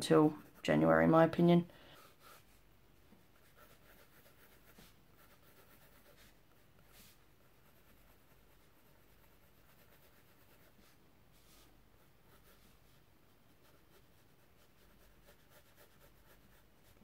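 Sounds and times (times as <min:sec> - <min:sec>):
pencil scratching on paper: 0:01.9 - 0:02.6, 0:03.3 - 0:17.0.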